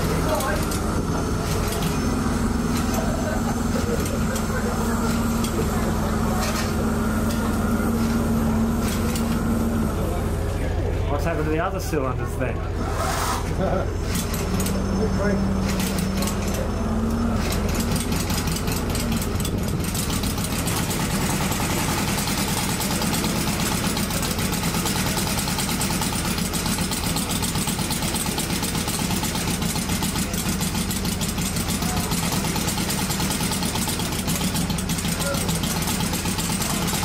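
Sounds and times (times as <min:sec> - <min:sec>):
model aero engine running: 0:00.0 - 0:37.0.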